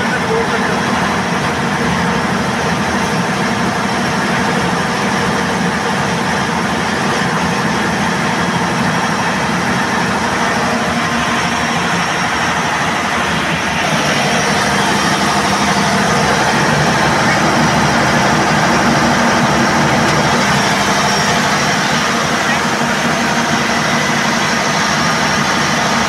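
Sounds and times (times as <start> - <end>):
diesel generator running: 0.0 - 26.0.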